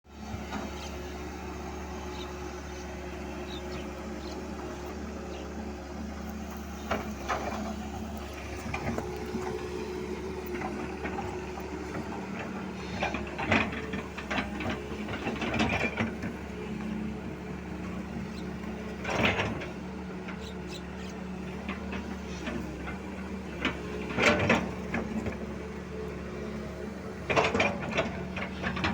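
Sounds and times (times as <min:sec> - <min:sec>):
motor humming: 0:00.1 - 0:28.9.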